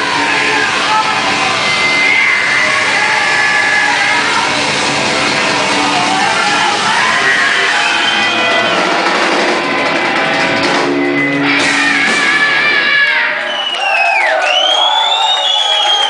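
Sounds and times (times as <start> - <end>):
rock band with guitars: 0.0 - 16.0.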